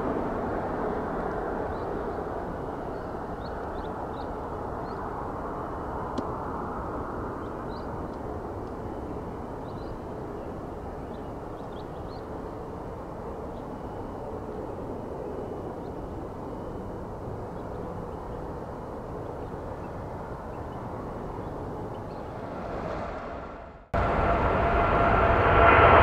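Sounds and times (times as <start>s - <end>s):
distant jet engines rumbling: 0.0s - 26.0s.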